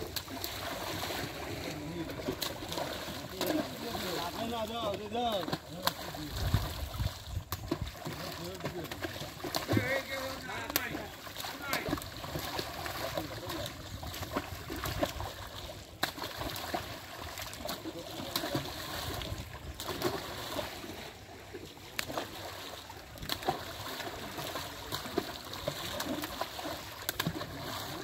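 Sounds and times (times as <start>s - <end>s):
fish thrashing and splashing: 0.0s - 28.0s.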